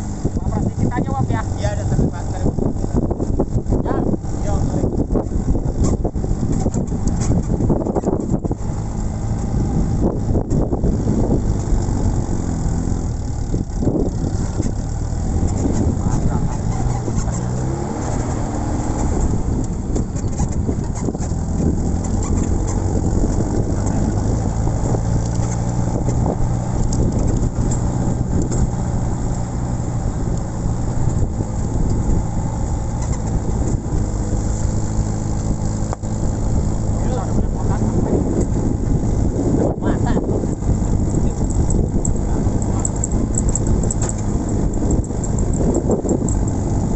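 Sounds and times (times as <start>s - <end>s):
car engine running: 0.0s - 46.9s
constant rushing noise: 0.0s - 46.9s.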